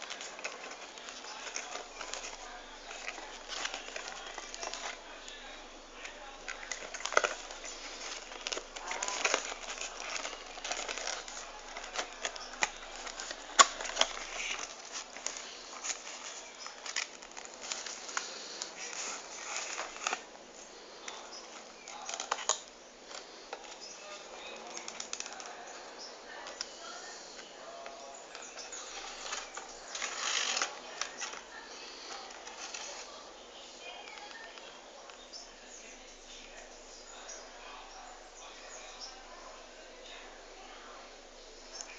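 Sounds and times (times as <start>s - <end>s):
packaging rustling: 0.0s - 34.8s.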